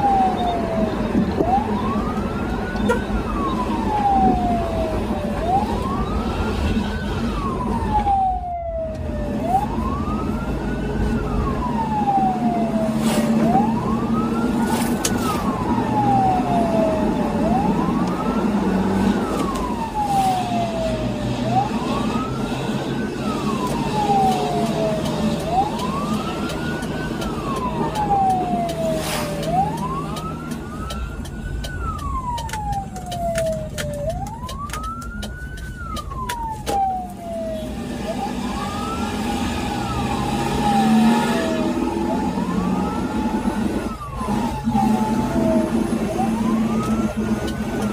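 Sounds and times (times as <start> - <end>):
ambulance siren wailing: 0.0 - 47.9
vehicle engine and road noise: 0.0 - 47.9.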